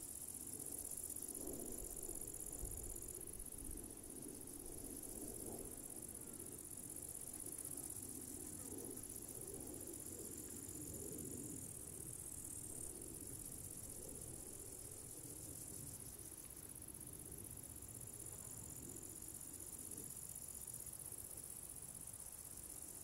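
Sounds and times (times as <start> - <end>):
crickets chirring: 0.0 - 23.0
thin insect song: 0.0 - 23.0.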